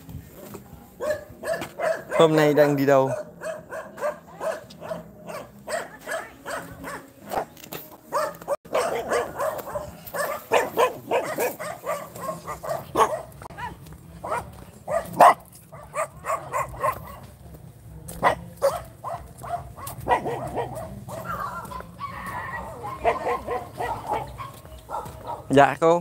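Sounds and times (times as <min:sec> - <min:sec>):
dog barking: 0:01.0 - 0:07.4, 0:08.1 - 0:17.2, 0:18.2 - 0:25.6.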